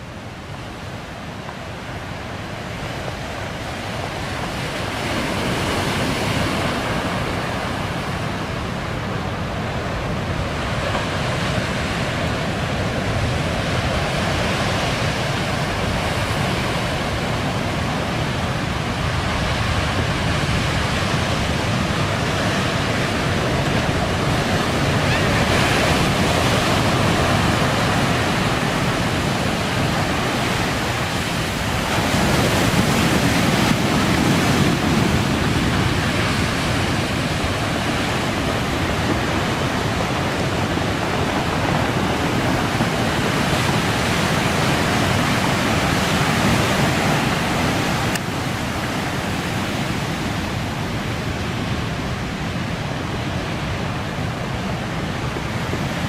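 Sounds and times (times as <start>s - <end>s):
breaking waves: 0.0s - 56.0s
strong wind on microphone: 0.0s - 56.0s.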